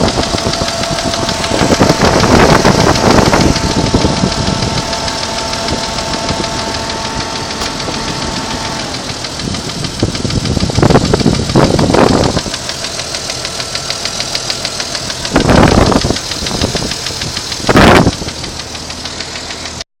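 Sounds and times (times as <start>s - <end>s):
engine running with fast ticking: 0.0s - 19.9s.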